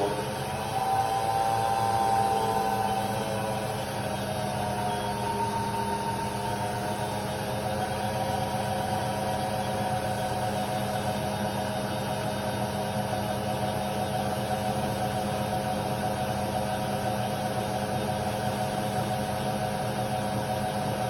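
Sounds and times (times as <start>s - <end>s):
washer-dryer motor humming: 0.0s - 21.0s.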